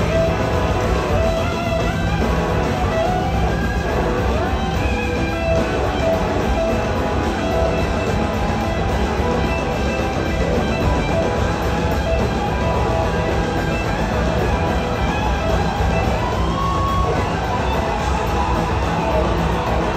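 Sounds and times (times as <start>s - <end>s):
drums: 0.0s - 19.9s
electric guitar lines: 0.0s - 19.9s
keyboards: 0.0s - 19.9s.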